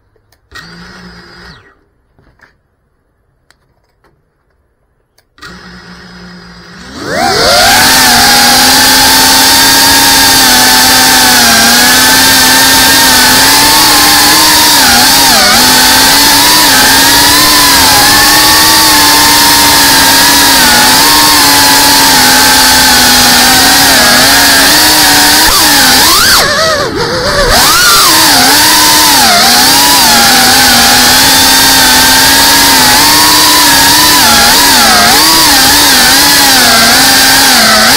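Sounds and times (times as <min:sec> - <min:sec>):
drone motors whining: 0:00.3 - 0:02.0, 0:05.3 - 0:37.9.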